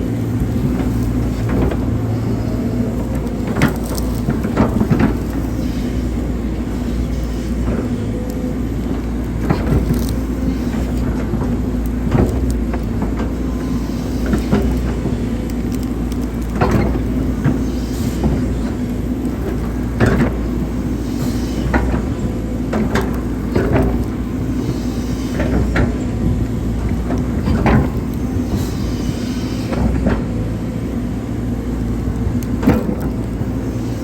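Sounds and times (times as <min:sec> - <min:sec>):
excavator diesel engine: 0:00.0 - 0:34.0.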